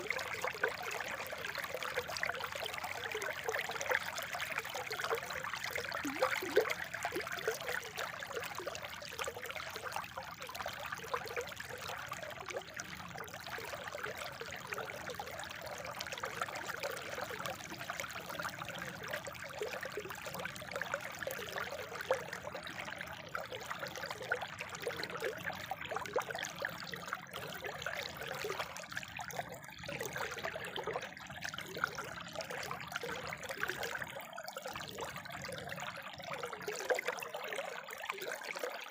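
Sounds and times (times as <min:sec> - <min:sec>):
spring water trickling and splashing: 0:00.0 - 0:38.9.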